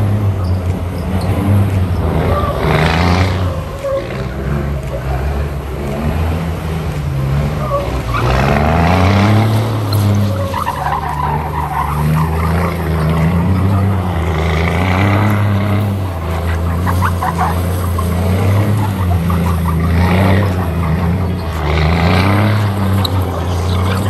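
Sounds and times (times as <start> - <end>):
diesel truck engine revving: 0.0 - 24.0
tyres skidding through dirt: 0.0 - 24.0.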